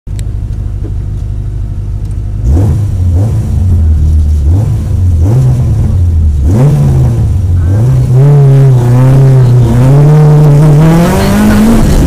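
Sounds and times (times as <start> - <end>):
car engine idling and revving: 0.1 - 12.0.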